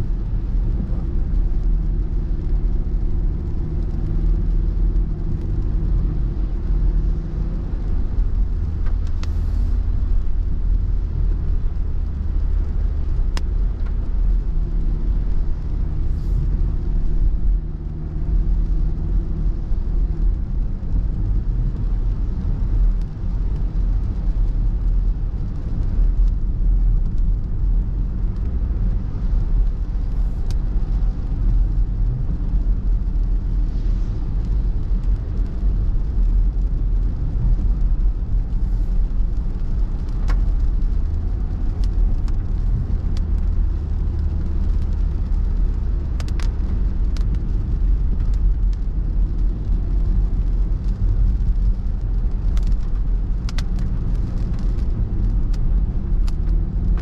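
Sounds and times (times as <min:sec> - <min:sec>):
car rumbling on wet road: 0:00.0 - 0:57.0
faint engine hum: 0:00.0 - 0:57.0.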